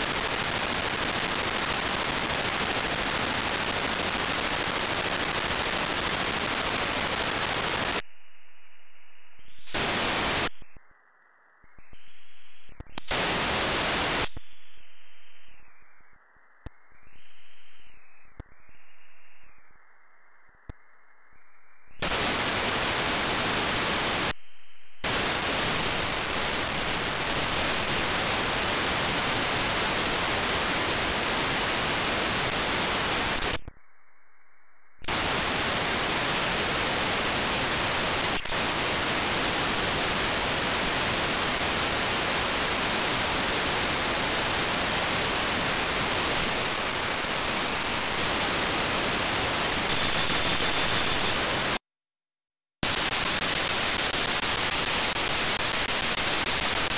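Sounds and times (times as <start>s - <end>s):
radio static hiss: 0.0s - 51.9s, 52.8s - 56.9s.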